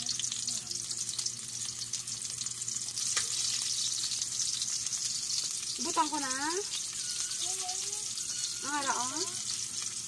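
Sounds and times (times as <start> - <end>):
oil sizzling in a wok: 0.0 - 10.0.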